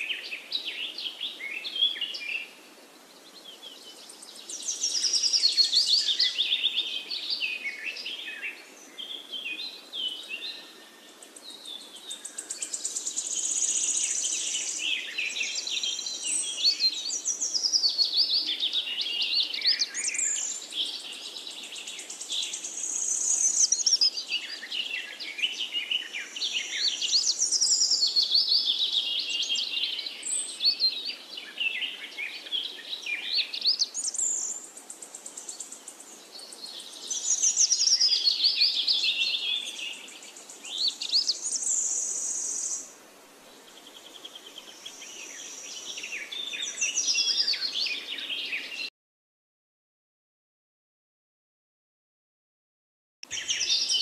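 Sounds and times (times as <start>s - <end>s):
songbirds chirping and trilling: 0.0s - 48.9s, 53.2s - 54.0s.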